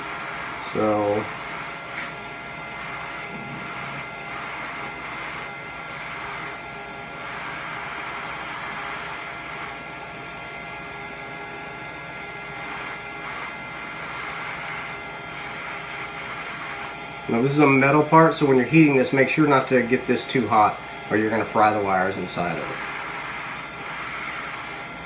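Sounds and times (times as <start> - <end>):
heat gun blowing air: 0.0 - 25.0.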